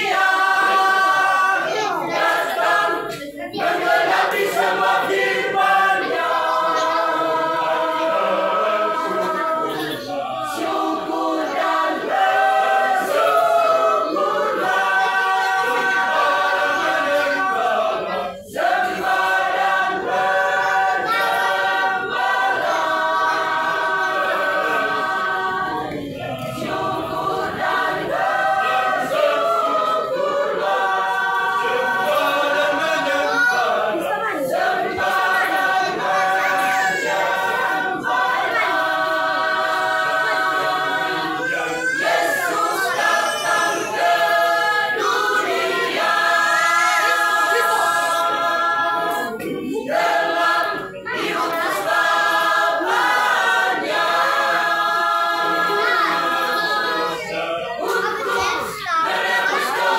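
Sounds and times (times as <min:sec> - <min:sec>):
mixed choir singing unaccompanied: 0:00.0 - 0:59.9.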